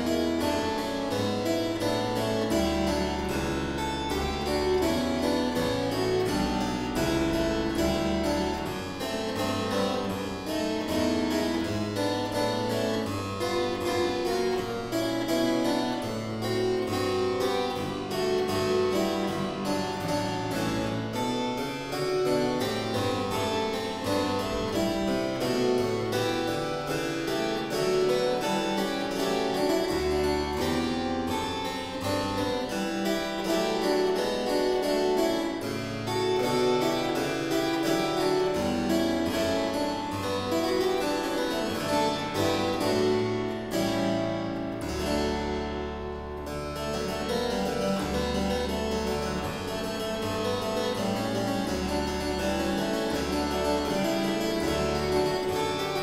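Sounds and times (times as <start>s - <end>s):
harpsichord playing: 0.0s - 56.0s.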